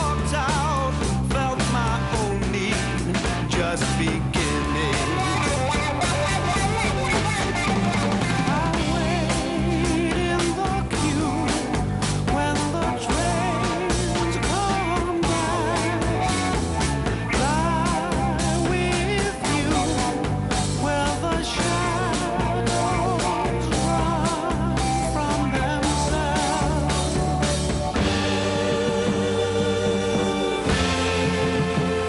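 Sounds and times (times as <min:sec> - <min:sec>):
pop record playing: 0:00.0 - 0:32.0.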